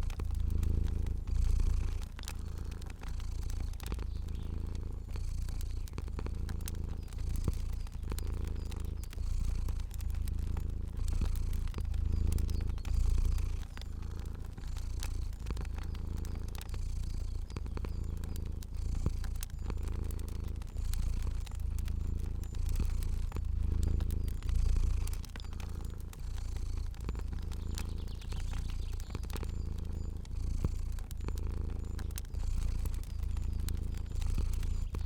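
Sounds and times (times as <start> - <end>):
cat purring: 0.0 - 35.0
crackling fire: 0.0 - 35.0.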